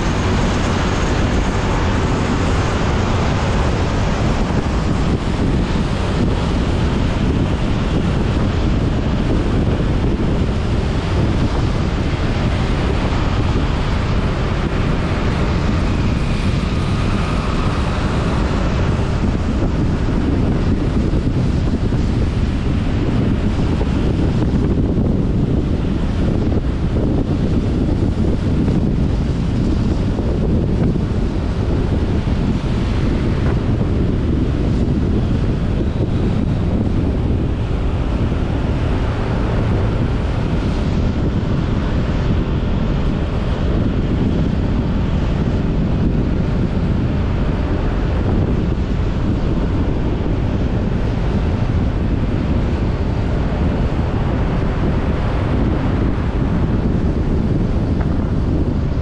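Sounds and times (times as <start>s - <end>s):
motorcycle rumble: 0.0s - 59.0s
tyres on road: 0.0s - 59.0s
wind rush on microphone: 0.0s - 59.0s.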